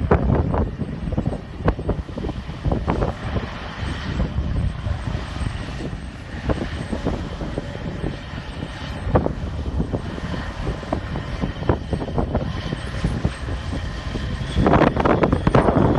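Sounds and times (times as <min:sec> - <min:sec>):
diesel engine rumbling: 0:00.0 - 0:15.9.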